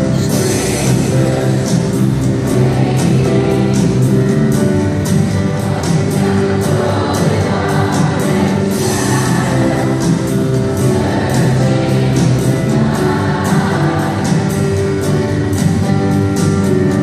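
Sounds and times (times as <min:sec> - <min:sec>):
choir singing with band: 0:00.0 - 0:17.0.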